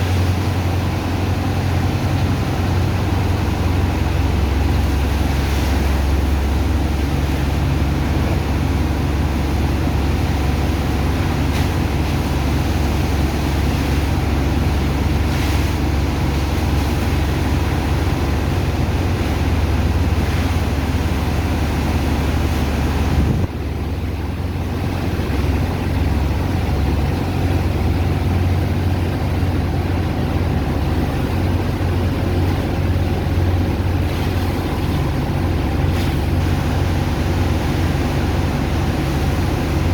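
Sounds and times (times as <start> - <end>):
heavy pump engine droning: 0.0 - 39.9.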